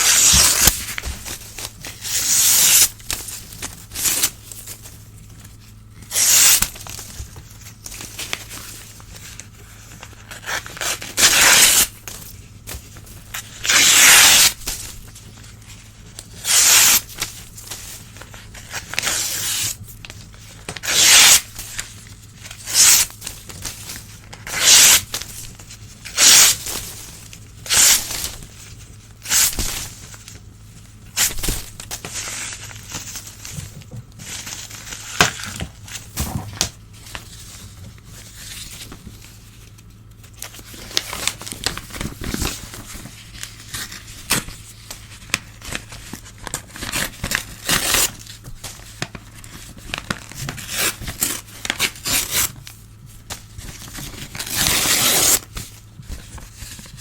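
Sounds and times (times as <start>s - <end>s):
newspaper tearing: 0.0s - 4.9s, 5.6s - 7.2s, 7.8s - 15.2s, 16.1s - 28.4s, 29.2s - 30.4s, 31.2s - 33.5s, 40.3s - 57.0s
paper crinkling and rustling: 0.0s - 57.0s.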